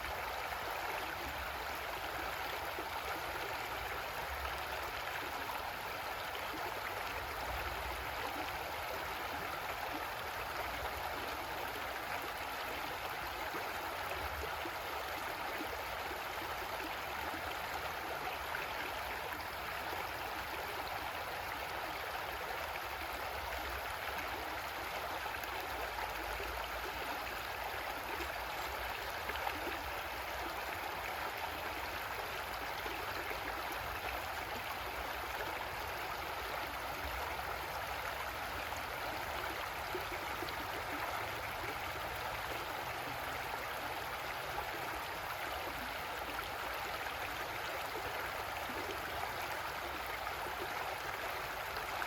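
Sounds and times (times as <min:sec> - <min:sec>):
creek water running over rocks: 0:00.0 - 0:52.0.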